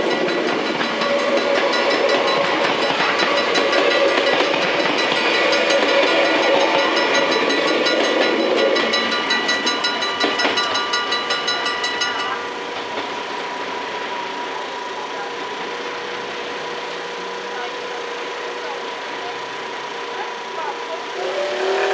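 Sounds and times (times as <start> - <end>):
crossing bells ringing: 0.0 - 21.1.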